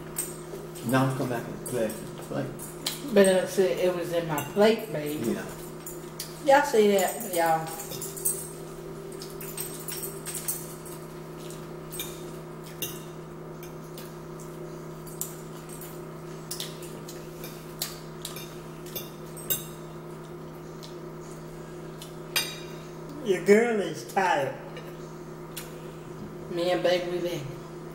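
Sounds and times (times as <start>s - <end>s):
steady hum: 0.0s - 27.9s.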